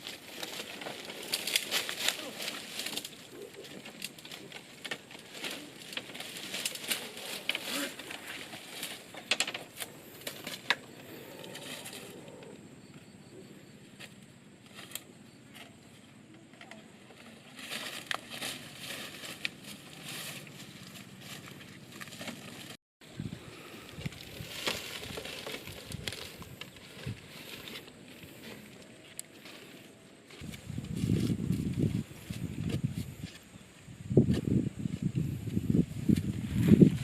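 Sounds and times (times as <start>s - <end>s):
rustling and crackling: 0.0s - 12.6s, 14.0s - 22.8s, 23.4s - 33.6s.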